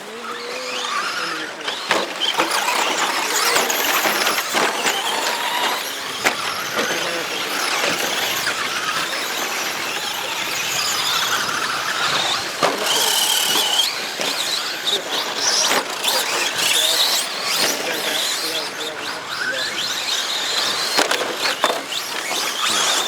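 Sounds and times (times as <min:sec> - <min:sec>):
rc truck motors whining: 0:00.0 - 0:23.0.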